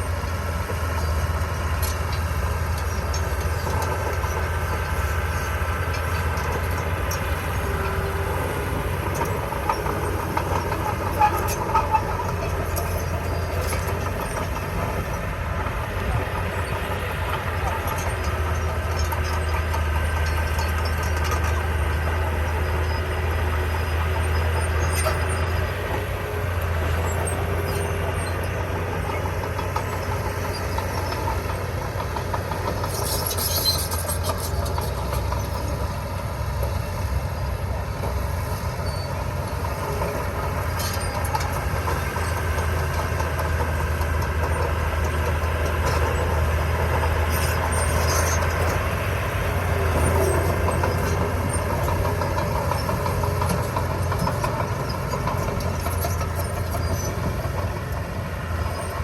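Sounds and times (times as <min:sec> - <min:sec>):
diesel construction machinery running: 0:00.0 - 0:59.0.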